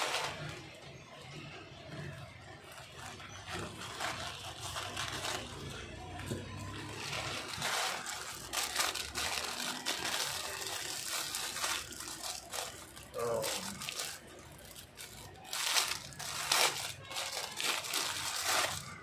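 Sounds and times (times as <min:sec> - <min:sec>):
plastic bag crinkling: 0:00.0 - 0:01.2, 0:02.4 - 0:19.0.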